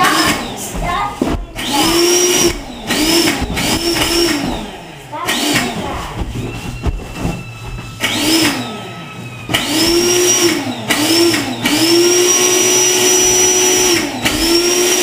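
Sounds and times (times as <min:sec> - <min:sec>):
electric pump motor whining: 0:00.0 - 0:15.0.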